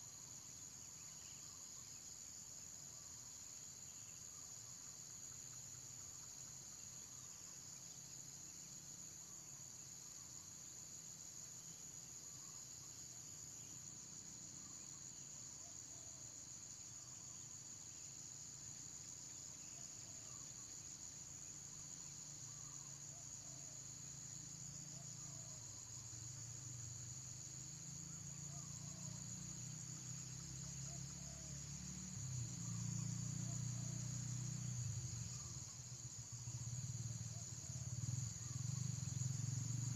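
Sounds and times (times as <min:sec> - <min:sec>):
high-pitched insect chorus trilling: 0:00.0 - 0:39.9.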